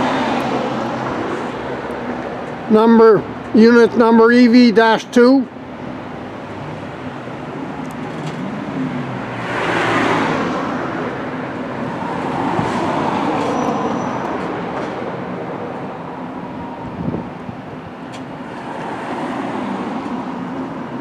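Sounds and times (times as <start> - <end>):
vehicles driving past: 0.0 - 21.0.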